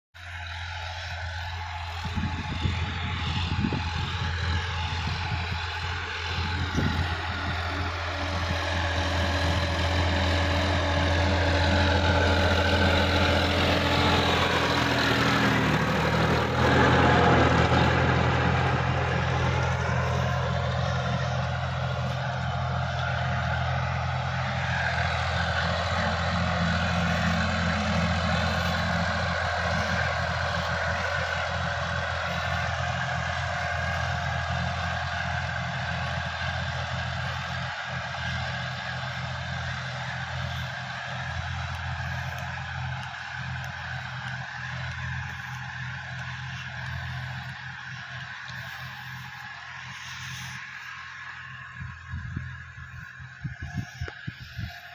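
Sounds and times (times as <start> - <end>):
tractor engine running under load: 0.1 - 54.9.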